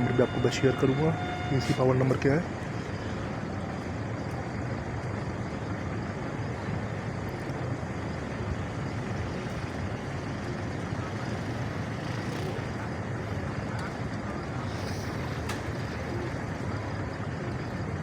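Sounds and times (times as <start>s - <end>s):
diesel locomotive engine drone: 0.0s - 18.0s
train rolling noise: 0.0s - 18.0s.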